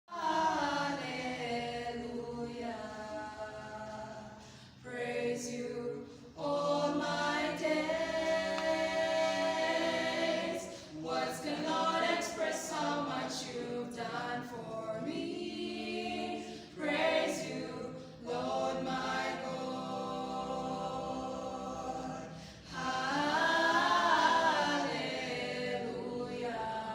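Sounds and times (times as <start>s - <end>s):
choir singing a cappella: 0.0s - 26.9s.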